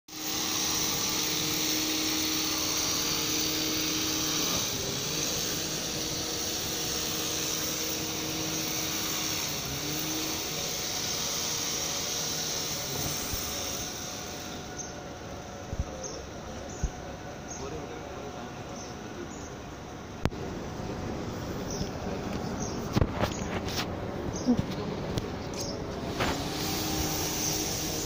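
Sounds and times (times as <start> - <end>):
motor droning: 0.1 - 23.7, 25.2 - 28.0
constant hiss: 0.1 - 28.0.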